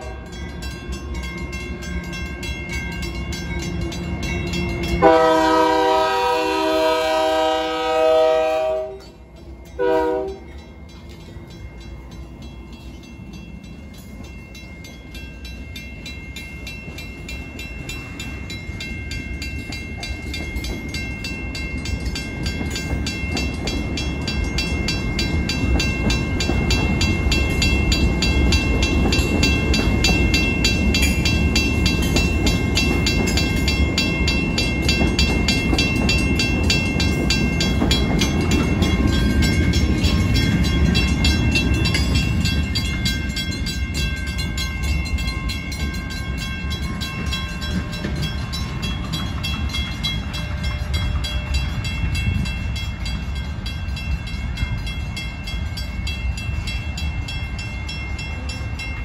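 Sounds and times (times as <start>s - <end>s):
crossing bell ringing: 0.0s - 59.0s
freight train wheels rumbling: 0.0s - 59.0s.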